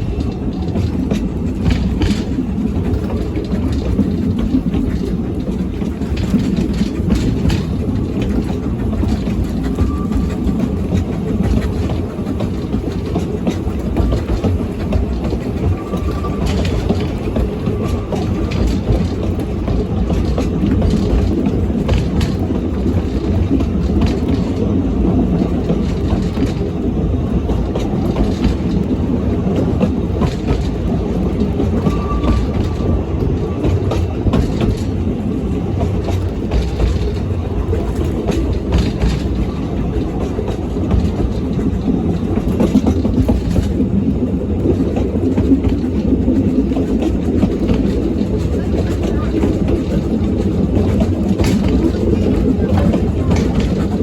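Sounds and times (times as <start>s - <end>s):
train rumbling: 0.0s - 54.0s
wheels clicking on track: 0.0s - 54.0s.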